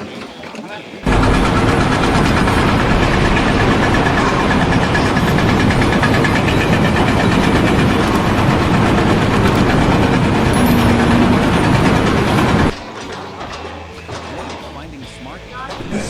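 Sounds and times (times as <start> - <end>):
loud engine with fast rattle: 1.0 - 16.0.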